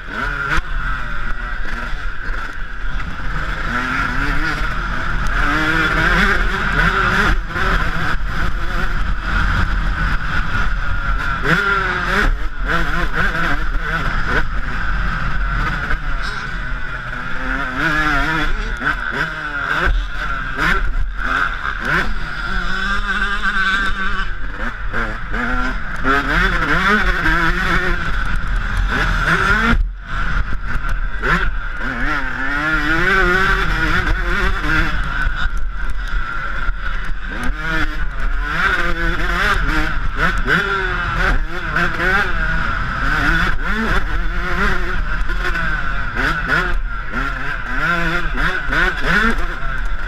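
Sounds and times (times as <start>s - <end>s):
motocross engine revving: 0.0s - 50.0s.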